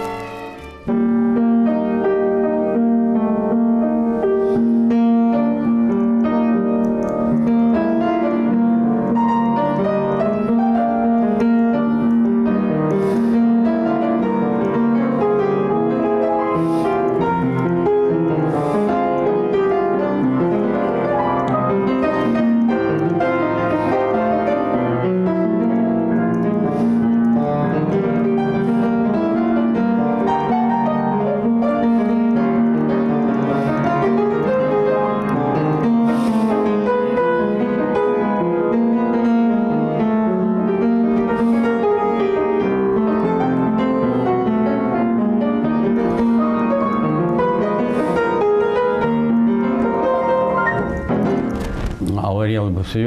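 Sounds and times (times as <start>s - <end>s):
solo piano melody: 0.0s - 52.4s.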